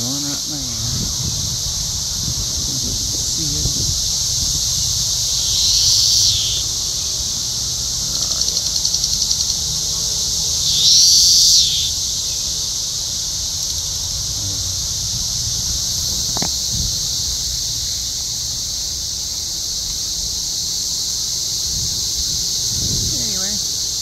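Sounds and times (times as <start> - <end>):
cicadas droning: 0.0 - 24.0
nearby cicada calling: 0.0 - 24.0.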